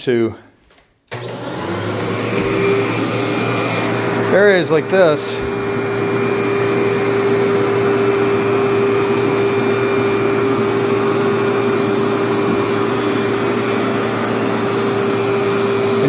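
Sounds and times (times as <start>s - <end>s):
vacuum cleaner running: 1.1s - 16.0s.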